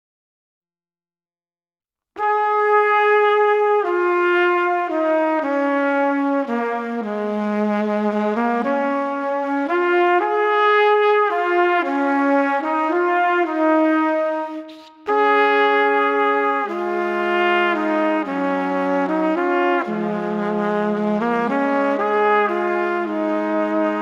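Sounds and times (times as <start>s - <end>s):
brass-like melody: 2.2s - 24.0s.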